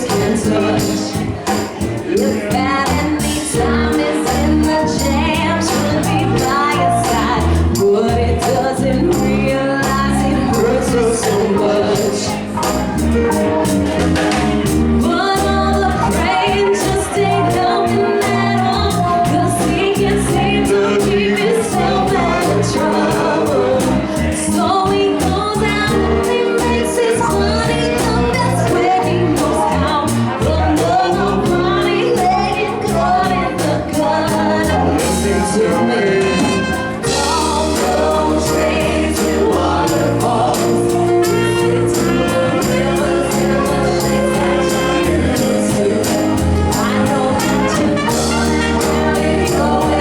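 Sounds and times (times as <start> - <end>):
live band playing r and b: 0.0 - 50.0
trombone: 0.0 - 50.0.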